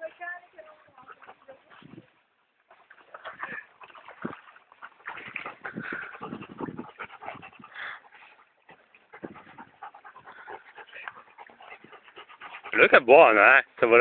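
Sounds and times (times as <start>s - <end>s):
dogs panting: 0.7s - 2.2s, 3.0s - 13.4s.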